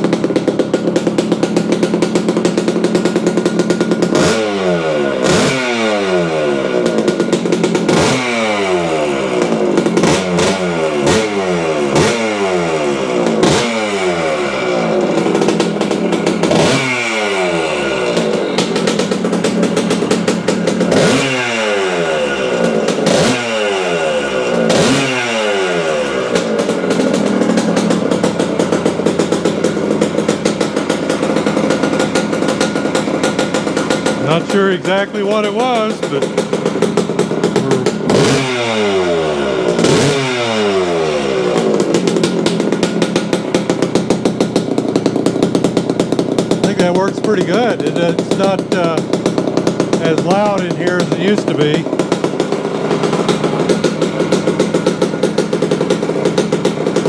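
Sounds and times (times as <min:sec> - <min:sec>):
motorcycle engine idling: 0:00.0 - 0:57.0
two-stroke motorcycle engine revving: 0:00.0 - 0:57.0.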